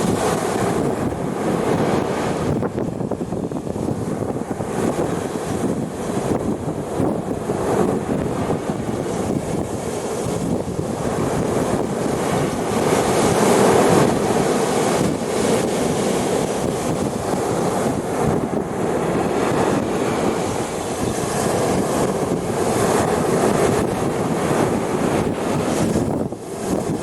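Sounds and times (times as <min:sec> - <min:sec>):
waves washing onto beach: 0:00.0 - 0:27.0.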